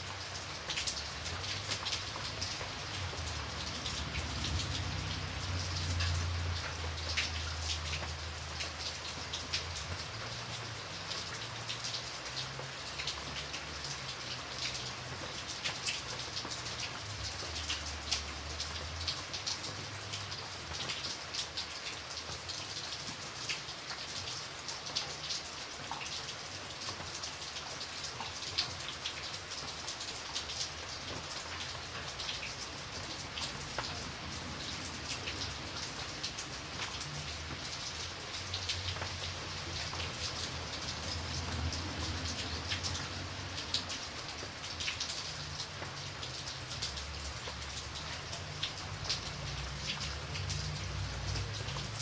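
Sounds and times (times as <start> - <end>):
raindrops hitting a surface: 0.0 - 52.0
steady rain: 0.0 - 52.0.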